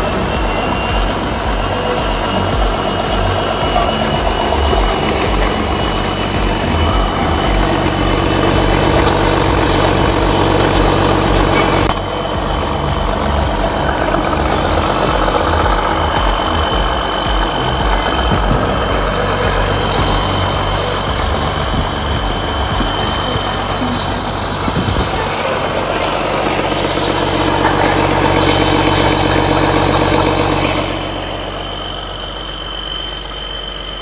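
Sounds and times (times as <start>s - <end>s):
diesel engine idling: 0.0s - 34.0s
high-pitched whine: 0.0s - 34.0s.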